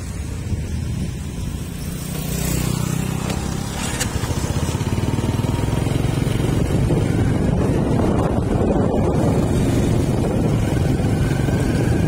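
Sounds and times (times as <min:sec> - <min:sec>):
vehicle engine running: 0:00.6 - 0:12.0.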